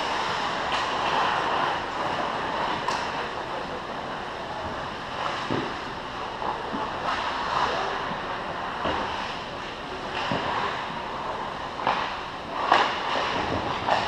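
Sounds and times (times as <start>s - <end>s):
skates on ice: 0.0s - 4.2s, 6.5s - 14.0s.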